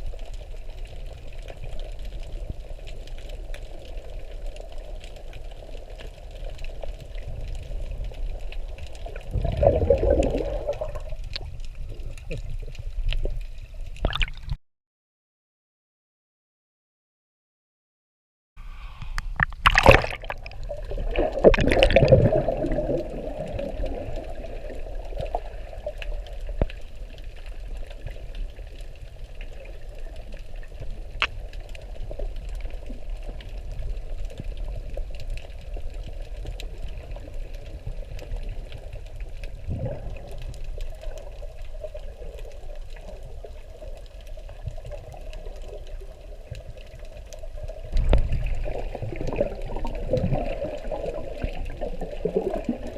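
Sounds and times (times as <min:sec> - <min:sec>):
water sloshing and bubbling: 0:00.0 - 0:14.6, 0:18.6 - 0:52.9
water splashes: 0:04.8 - 0:14.6, 0:18.8 - 0:52.9.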